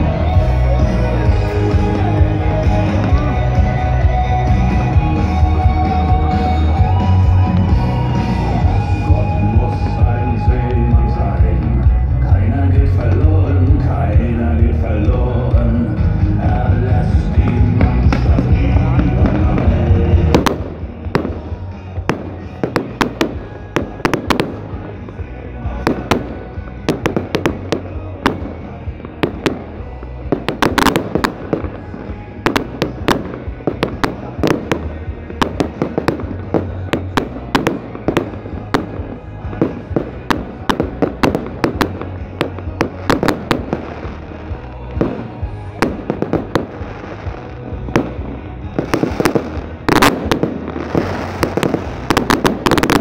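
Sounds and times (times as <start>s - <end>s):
fireworks bangs and crackling: 0.0s - 53.0s
music playing: 0.0s - 53.0s.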